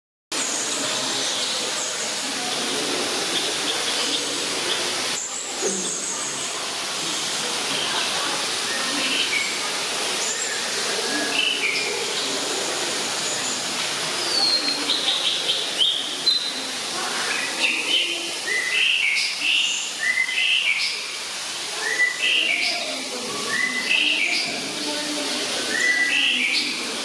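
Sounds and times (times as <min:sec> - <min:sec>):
falling water hissing: 0:00.3 - 0:27.0.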